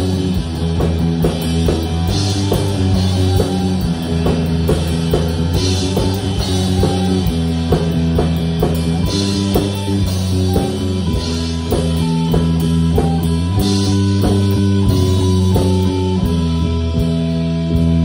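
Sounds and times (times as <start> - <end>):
drum kit: 0.0 - 18.0
electric guitars playing chords: 0.0 - 18.0.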